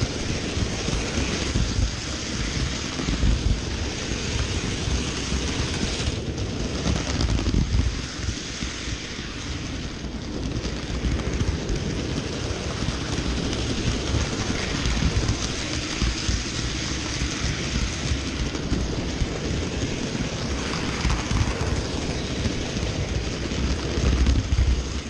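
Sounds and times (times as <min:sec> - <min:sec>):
model train wheels rattling on track: 0:00.0 - 0:25.0.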